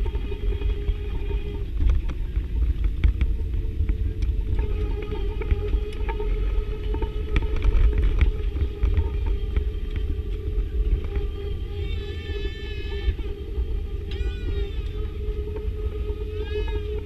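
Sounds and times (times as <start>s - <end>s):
airliner cabin rumble: 0.0s - 17.0s
constant hum: 0.0s - 17.0s.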